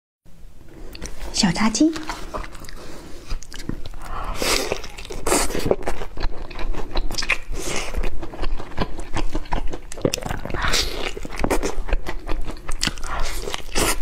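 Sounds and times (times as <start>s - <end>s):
crunchy chewing of fried chicken: 2.0s - 14.0s.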